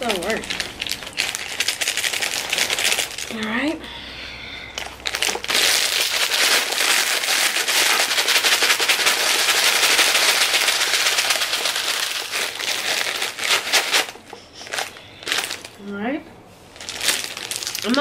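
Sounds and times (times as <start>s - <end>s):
dry noodles crackling: 0.0s - 3.5s, 4.7s - 15.9s, 16.7s - 18.0s
plastic wrapper crinkling: 0.0s - 3.7s, 4.7s - 15.9s, 16.7s - 18.0s.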